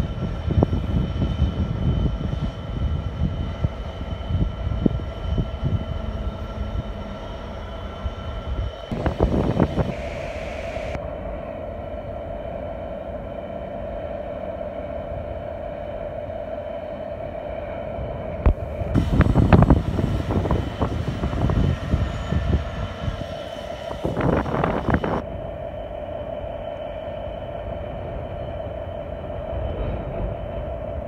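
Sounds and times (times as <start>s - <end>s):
diesel locomotive engine idling: 0.0s - 31.0s.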